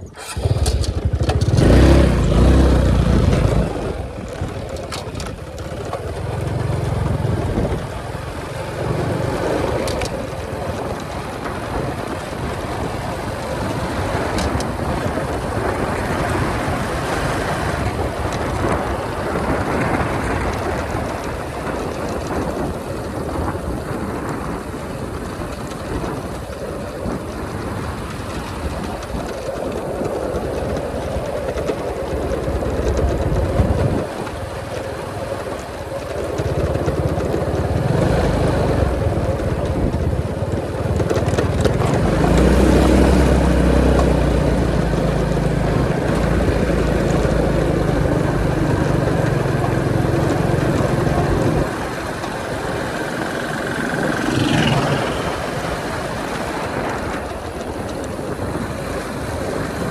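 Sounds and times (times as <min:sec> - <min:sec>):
motorcycle engine running: 0:00.0 - 0:59.9
road noise: 0:00.0 - 0:59.9
wind noise: 0:00.0 - 0:59.9.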